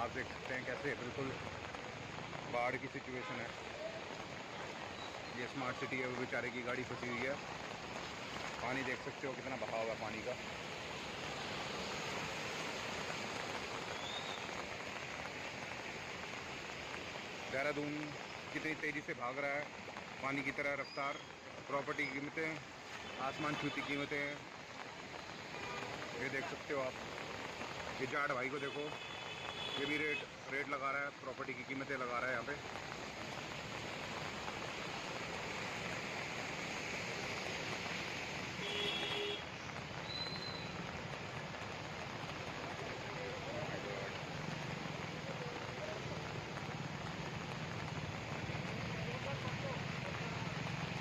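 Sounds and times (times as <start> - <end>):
floodwater rushing across road: 0.0 - 51.0.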